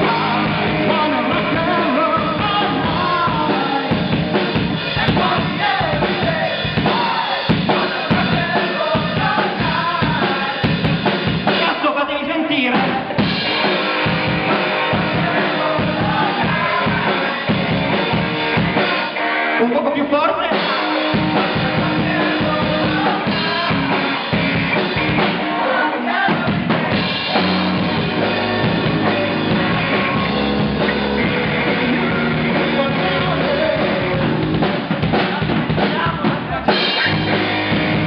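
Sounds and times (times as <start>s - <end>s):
person singing: 0.0s - 10.9s, 11.5s - 38.0s
electric bass: 0.0s - 11.7s, 13.0s - 19.5s, 20.6s - 38.0s
electric guitars: 0.0s - 11.8s, 12.8s - 38.0s
drum kit: 0.0s - 12.0s, 12.6s - 19.5s, 20.4s - 38.0s.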